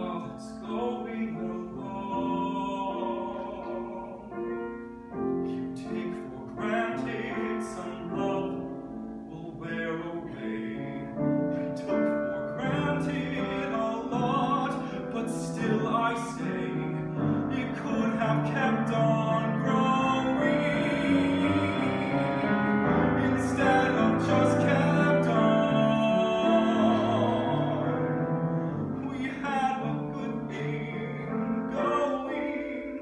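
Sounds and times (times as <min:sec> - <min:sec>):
grand piano: 0:00.0 - 0:33.0
man singing operatically: 0:00.0 - 0:33.0.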